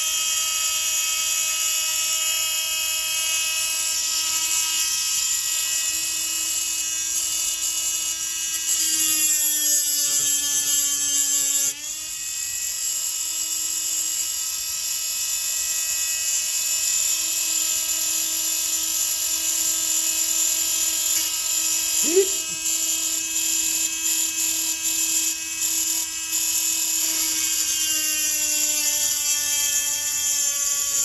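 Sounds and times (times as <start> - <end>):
electric rotary tool whining: 0.0 - 31.0.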